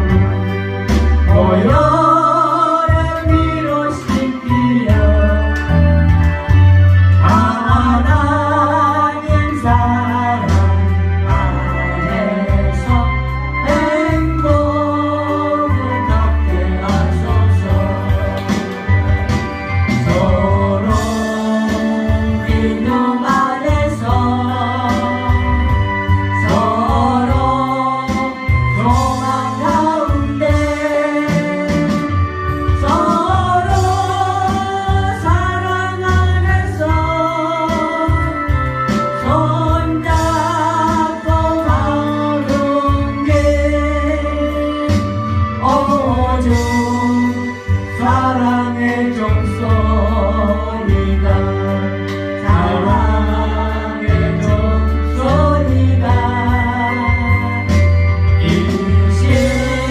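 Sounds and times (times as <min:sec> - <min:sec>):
instrumental accompaniment: 0:00.0 - 0:59.9
steady bass line: 0:00.0 - 0:59.9
person singing a hymn: 0:01.1 - 0:59.9.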